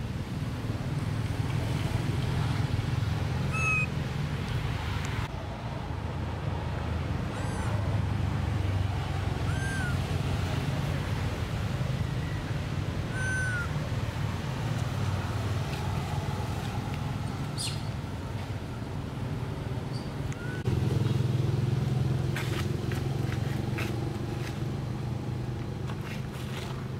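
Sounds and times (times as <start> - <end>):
low rumble of engine traffic: 0.0 - 26.9.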